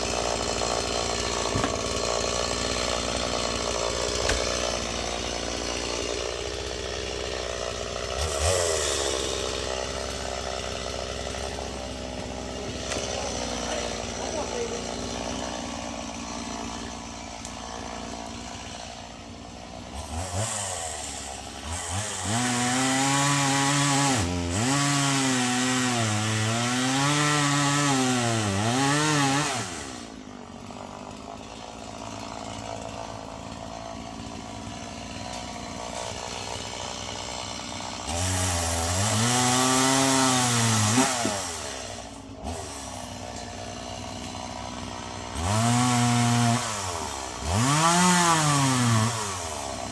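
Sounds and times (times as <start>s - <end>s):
chainsaw cutting logs: 0.0s - 49.9s.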